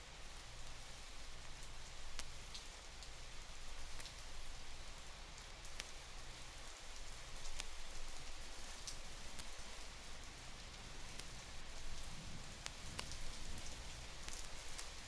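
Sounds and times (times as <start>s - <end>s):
steady rain falling: 0.0s - 15.0s
vinyl record ticks: 0.1s - 15.0s.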